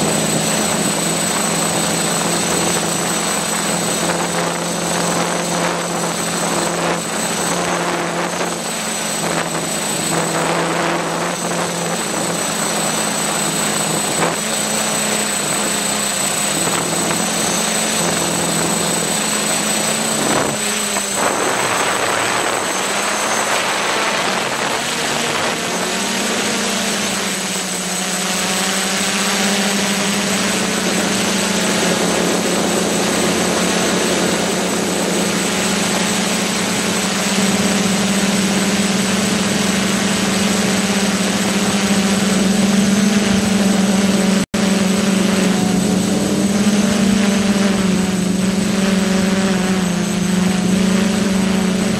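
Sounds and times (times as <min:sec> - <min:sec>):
drone motors humming: 0:00.0 - 0:51.9.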